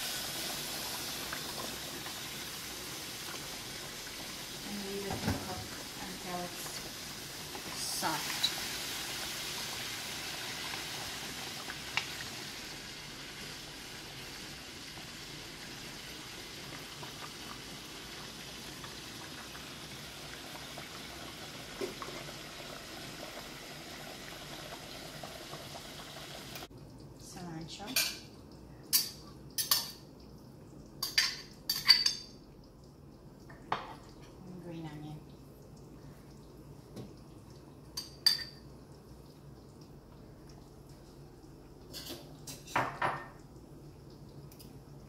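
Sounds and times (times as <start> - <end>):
sauce bubbling in a pan: 0.0 - 45.0.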